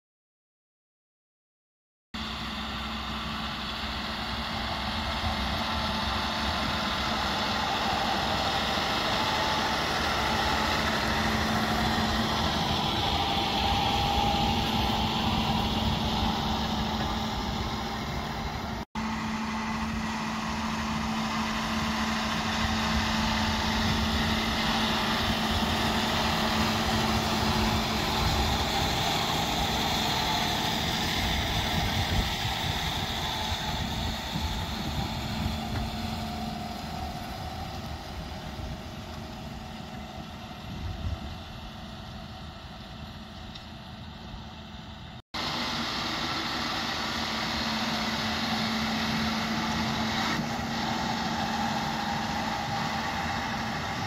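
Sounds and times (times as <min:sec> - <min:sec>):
diesel tractor running under load: 0:02.2 - 0:54.0.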